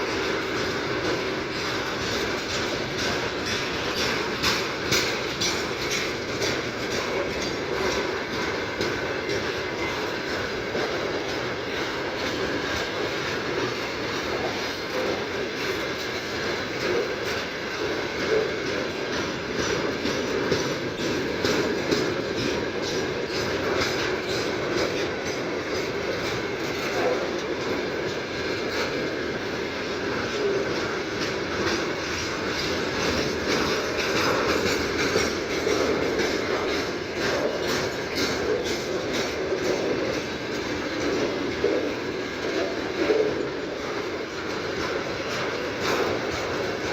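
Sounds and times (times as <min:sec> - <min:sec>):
freight train wheels on rails: 0:00.0 - 0:46.9.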